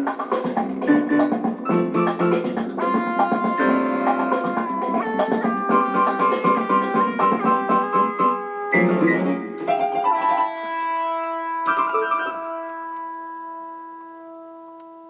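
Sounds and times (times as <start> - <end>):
piano-like keyboard music: 0.0 - 15.0.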